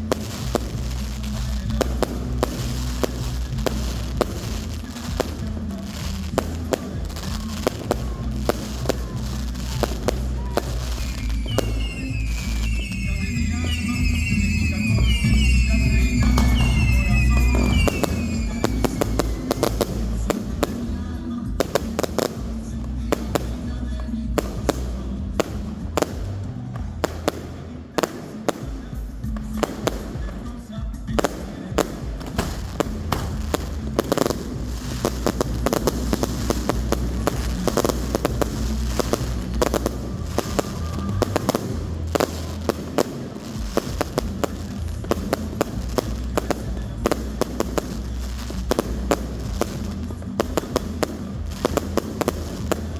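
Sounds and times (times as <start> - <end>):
fireworks bangs and crackling: 0.0 - 52.9
music playing: 0.0 - 52.9.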